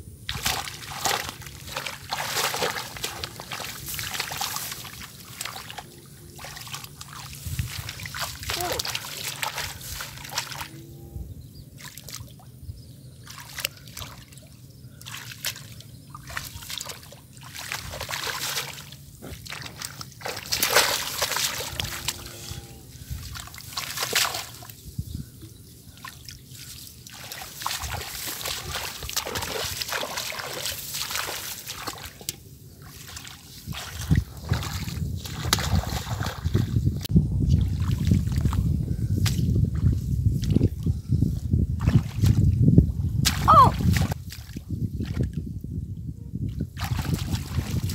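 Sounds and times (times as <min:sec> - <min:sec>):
water splashing and trickling: 0:00.2 - 0:12.6, 0:13.2 - 0:45.8, 0:46.4 - 0:47.9.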